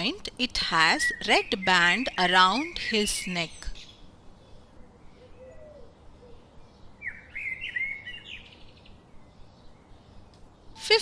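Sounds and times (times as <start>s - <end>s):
faint bird chirping: 0.0s - 11.0s
low background hiss: 0.0s - 11.0s.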